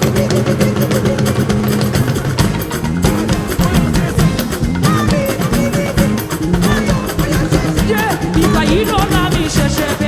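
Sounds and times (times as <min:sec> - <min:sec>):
drums: 0:00.0 - 0:10.0
gospel band music: 0:00.0 - 0:10.0
guitar: 0:00.0 - 0:10.0.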